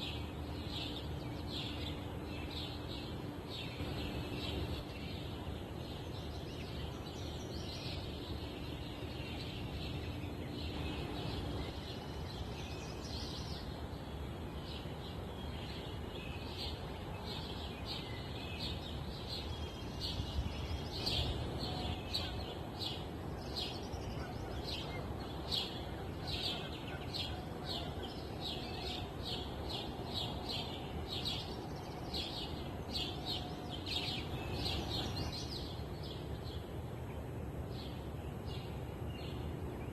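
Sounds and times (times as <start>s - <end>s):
low rush of wind: 0.0s - 39.9s
small birds chirping: 0.0s - 39.9s.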